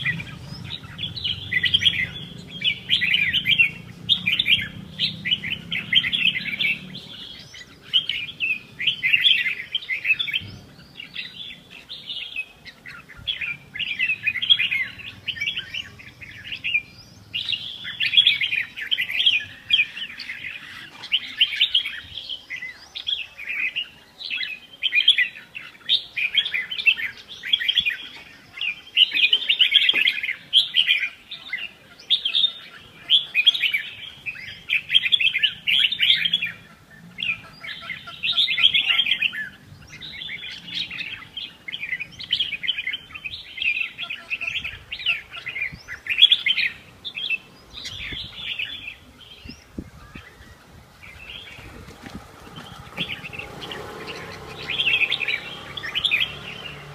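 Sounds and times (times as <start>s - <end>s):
birds chirping rapidly: 0.0s - 56.9s.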